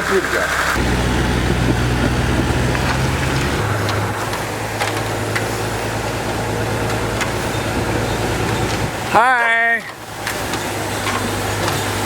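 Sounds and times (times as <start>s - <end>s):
road noise: 0.0s - 12.0s
vehicle engine running: 0.6s - 12.0s.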